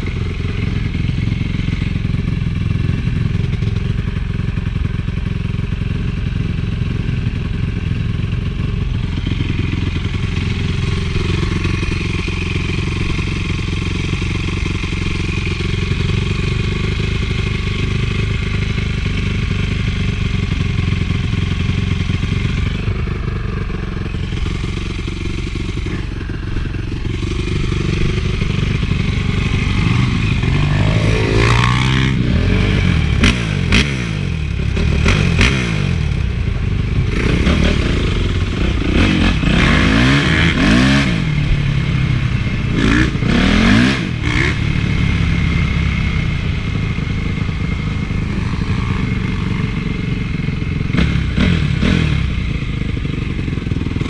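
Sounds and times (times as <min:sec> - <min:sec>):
motocross engine running: 0:00.0 - 0:54.0.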